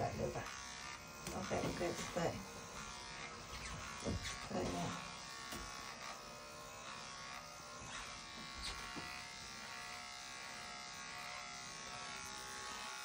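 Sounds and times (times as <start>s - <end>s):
electric hair trimmer buzzing: 0.0s - 13.0s.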